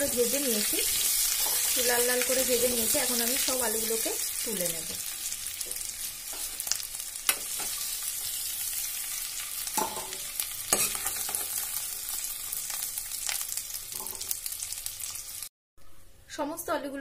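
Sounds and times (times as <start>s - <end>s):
potatoes sizzling in oil: 0.0s - 15.5s.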